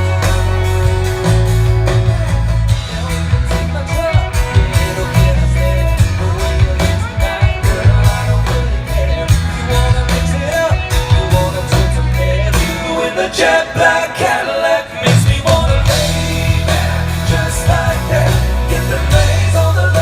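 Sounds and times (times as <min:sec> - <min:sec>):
country-rock band playing: 0:00.0 - 0:20.0.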